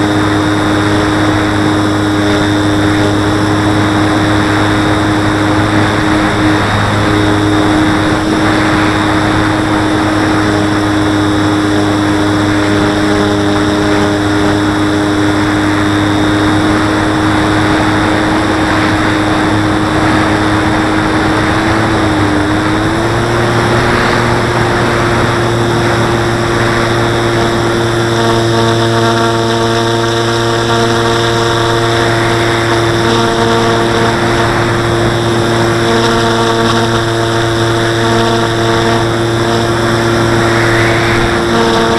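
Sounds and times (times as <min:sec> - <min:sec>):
rush of air: 0:00.0 - 0:28.7, 0:30.1 - 0:41.9
model plane motor and propeller: 0:00.0 - 0:41.9.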